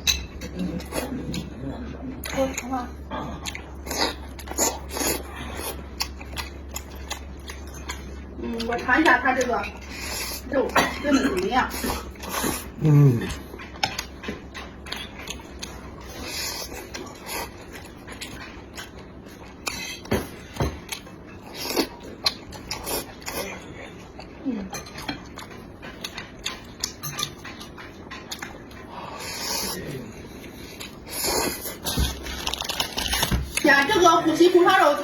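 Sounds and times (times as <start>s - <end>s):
close chewing mouth sounds: 0.0s - 35.0s.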